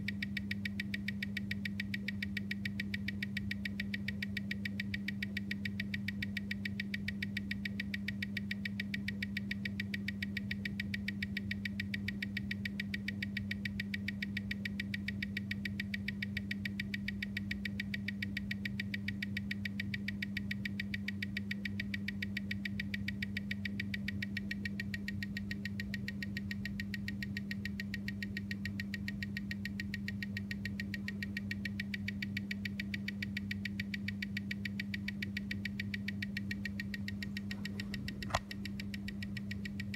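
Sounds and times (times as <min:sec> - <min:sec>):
steady electrical hum: 0:00.0 - 0:39.9
watch ticking: 0:00.0 - 0:39.9.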